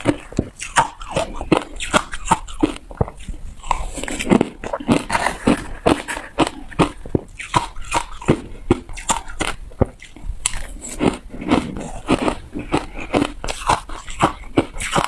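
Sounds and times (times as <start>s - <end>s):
ice crunching between teeth: 0.0s - 15.0s.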